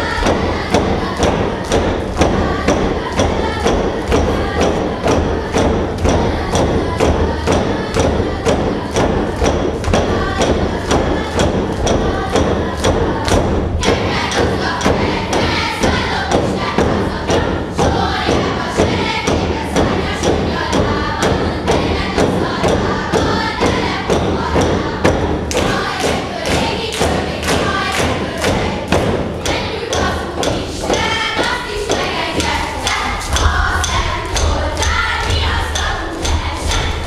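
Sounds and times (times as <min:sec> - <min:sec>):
group chanting: 0:00.0 - 0:37.0.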